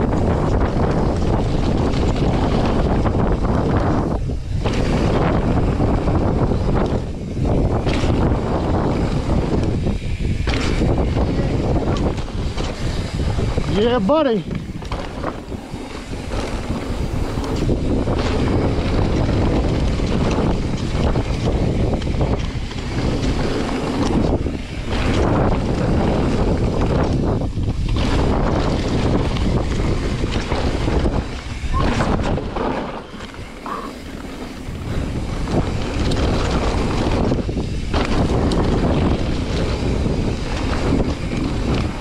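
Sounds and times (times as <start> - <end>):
bike tyres rolling on dirt: 0.0 - 42.0
wind buffeting microphone: 0.0 - 42.0.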